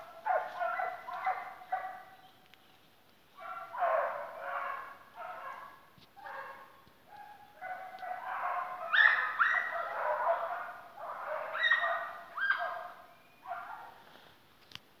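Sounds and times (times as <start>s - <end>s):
hounds baying: 0.0s - 2.3s, 3.4s - 14.0s.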